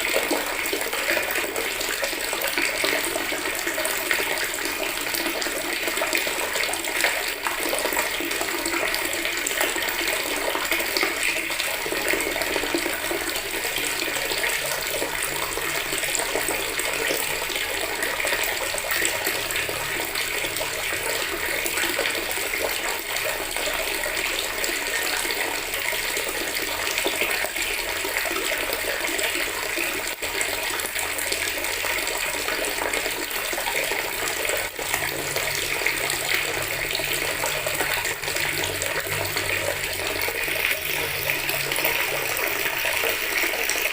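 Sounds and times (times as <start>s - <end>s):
tap water running into plastic bucket: 0.0s - 43.9s.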